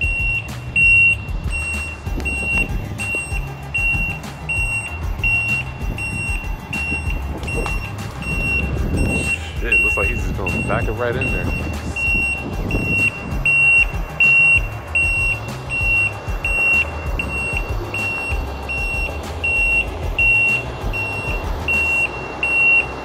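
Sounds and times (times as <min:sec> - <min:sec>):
diesel truck engine running: 0:00.0 - 0:23.0
reversing alarm beeping: 0:00.0 - 0:23.0.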